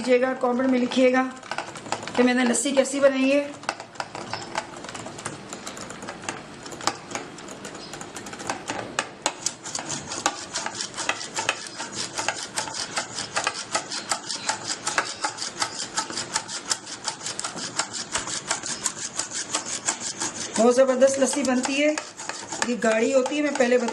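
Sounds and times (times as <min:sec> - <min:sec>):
whisk rattling in a container: 0:00.0 - 0:23.9.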